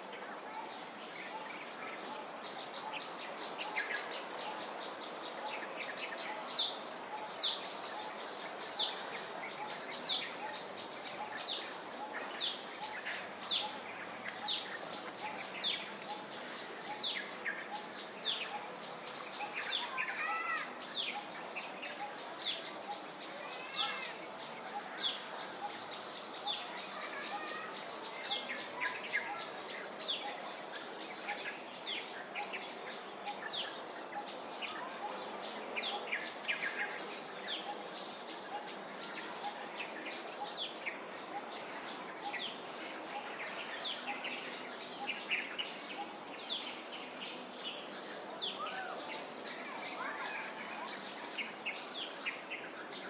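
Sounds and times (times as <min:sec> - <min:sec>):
background hiss: 0:00.0 - 0:53.0
birds chirping: 0:00.0 - 0:53.0.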